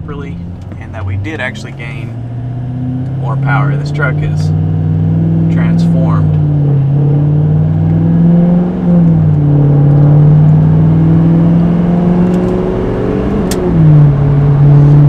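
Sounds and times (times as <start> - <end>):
turbodiesel engine accelerating: 0.0 - 15.0.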